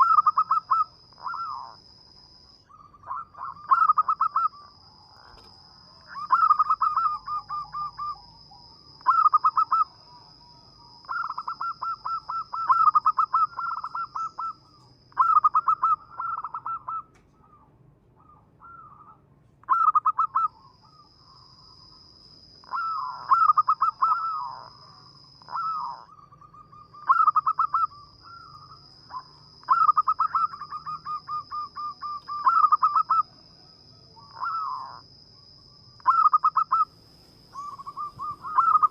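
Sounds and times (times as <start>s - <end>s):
dove cooing: 0.0s - 1.8s, 2.7s - 5.5s, 6.1s - 21.1s, 22.6s - 35.1s, 36.0s - 36.9s, 37.5s - 38.9s.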